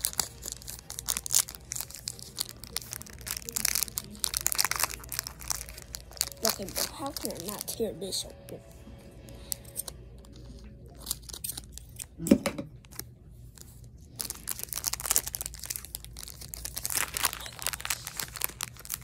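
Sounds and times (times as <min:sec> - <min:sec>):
wrapper crinkling and tearing: 0:00.0 - 0:12.2, 0:12.8 - 0:19.0.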